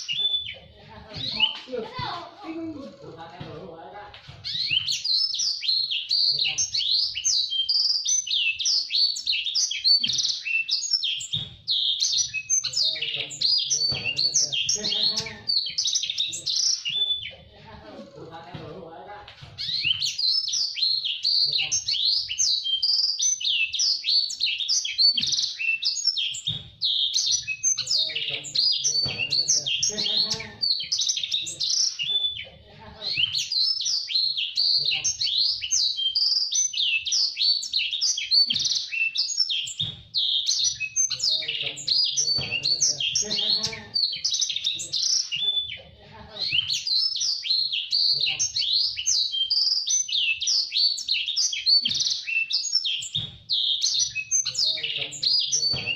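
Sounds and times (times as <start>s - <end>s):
bird singing high chirps and trills: 0.0s - 17.6s, 19.6s - 55.9s.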